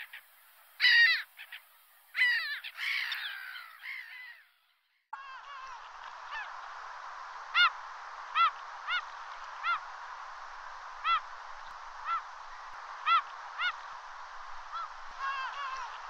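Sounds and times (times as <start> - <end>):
steady background hiss: 0.0 - 4.4, 5.2 - 16.0
gulls calling: 0.0 - 4.6, 5.2 - 16.0.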